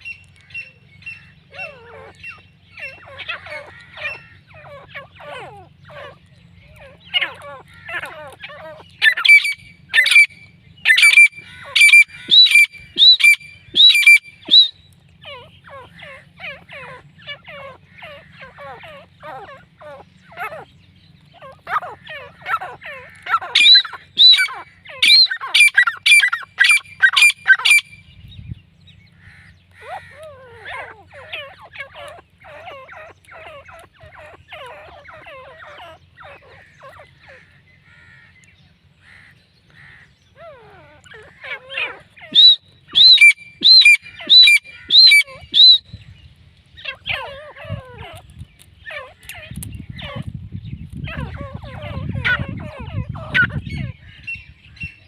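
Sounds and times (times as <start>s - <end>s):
bird chatter of short notes: 0.0s - 55.0s
loud ringing whistled bird calls: 0.0s - 55.0s.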